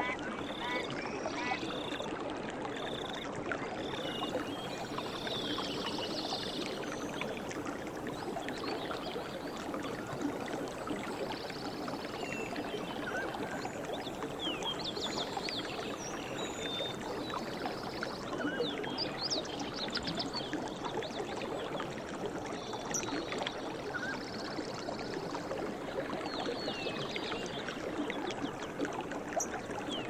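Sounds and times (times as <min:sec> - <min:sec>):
stream running: 0:00.0 - 0:30.0.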